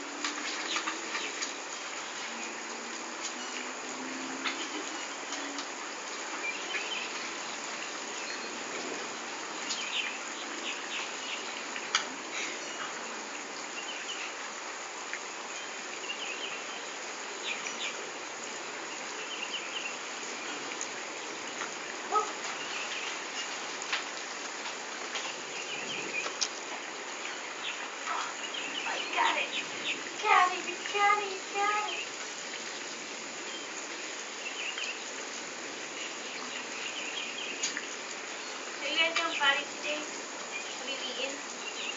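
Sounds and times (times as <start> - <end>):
steady outdoor hiss: 0.0 - 41.9.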